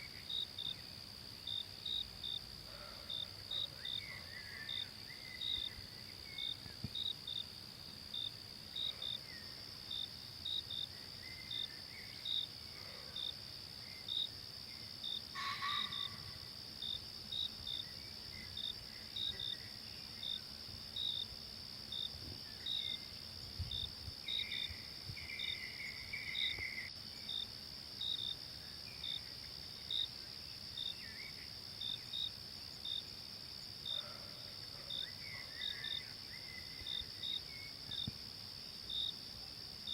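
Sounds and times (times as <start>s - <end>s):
insect chirps: 0.0s - 39.9s
insects droning: 0.0s - 39.9s.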